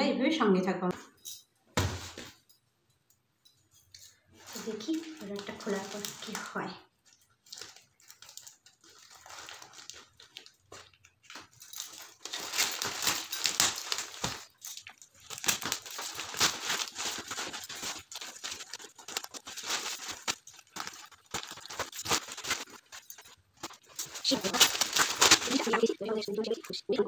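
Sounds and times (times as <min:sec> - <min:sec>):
plastic crinkling and rustling: 0:04.0 - 0:27.0.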